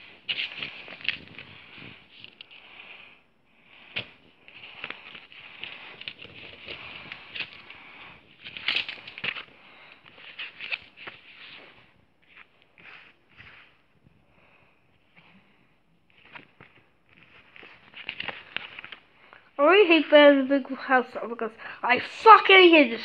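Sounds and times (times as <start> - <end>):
paper rustling: 0.0 - 20.1.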